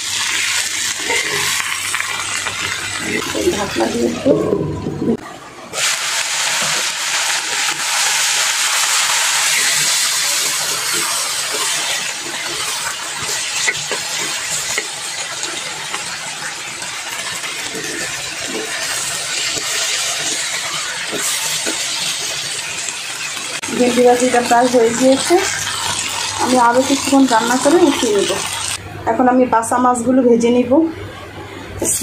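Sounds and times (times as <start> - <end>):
vegetables sizzling in oil: 0.0 - 4.3, 5.7 - 28.8.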